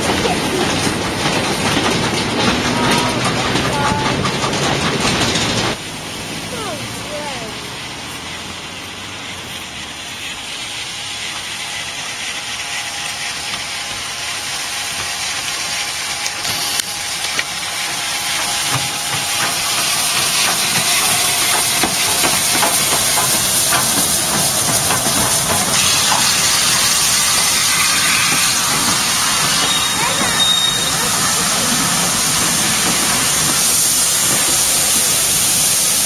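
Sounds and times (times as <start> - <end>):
steam locomotive hissing: 0.0 - 36.0.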